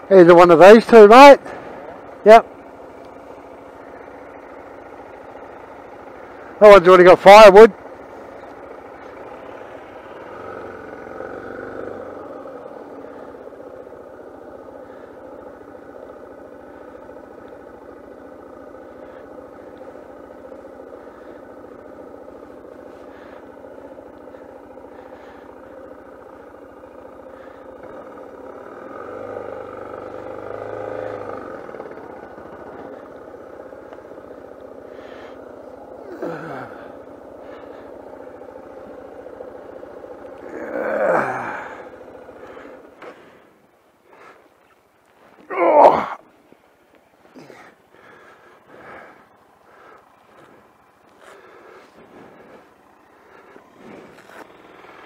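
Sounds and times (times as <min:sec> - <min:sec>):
single-cylinder motorcycle engine: 0:00.0 - 0:55.0.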